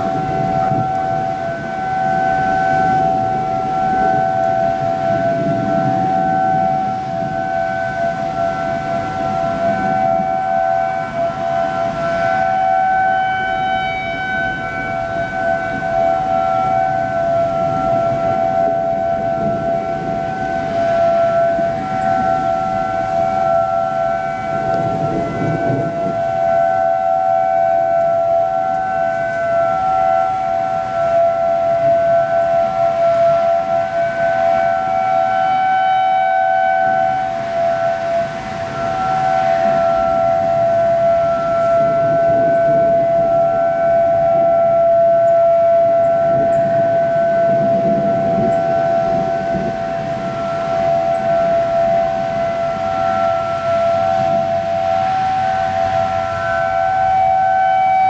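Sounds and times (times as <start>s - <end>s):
tornado warning sirens wailing: 0.0s - 58.0s.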